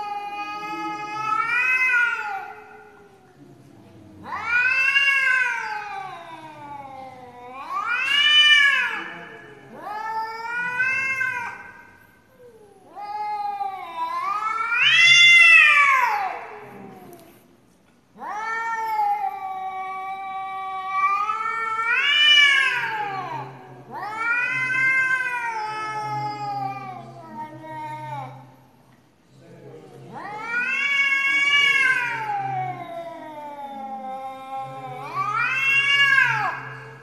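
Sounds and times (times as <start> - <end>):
cats yowling: 0.0 - 3.4, 4.2 - 17.2, 18.2 - 28.5, 30.1 - 37.0.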